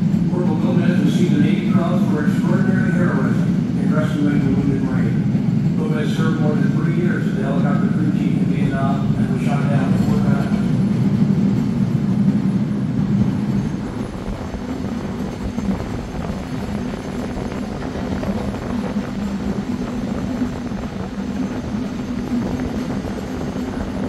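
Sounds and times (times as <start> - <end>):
aircraft engines rumbling: 0.0 - 24.0.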